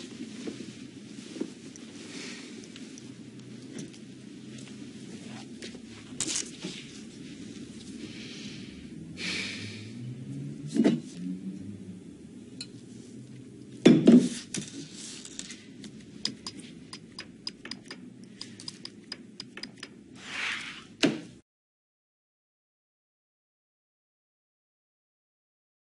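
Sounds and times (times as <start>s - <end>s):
low steady hum: 0.0s - 21.4s.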